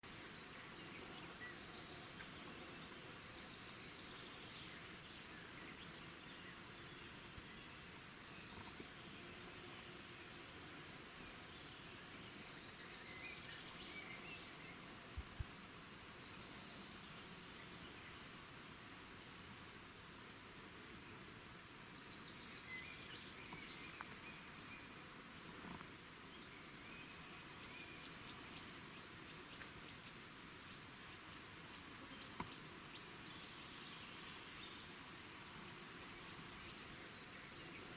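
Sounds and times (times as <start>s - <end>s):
low steady hiss: 0.0s - 37.9s.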